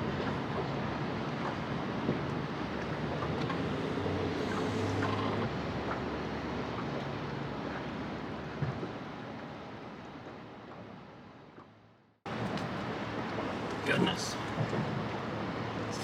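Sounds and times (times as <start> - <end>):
rushing wind and water: 0.0 - 11.6, 12.3 - 16.0.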